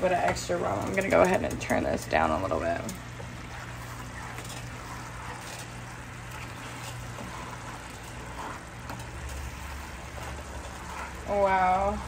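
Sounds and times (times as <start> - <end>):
glaze boiling in skillet: 0.0 - 12.0
spatula stirring: 0.0 - 12.0.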